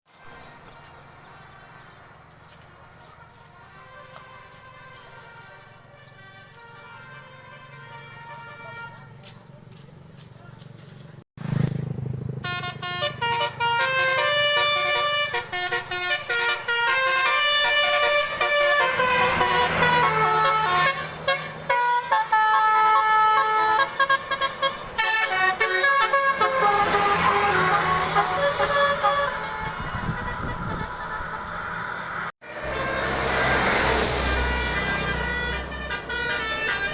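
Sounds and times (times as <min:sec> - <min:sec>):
musical bus horn playing a tune: 0:02.7 - 0:09.4, 0:12.4 - 0:36.9.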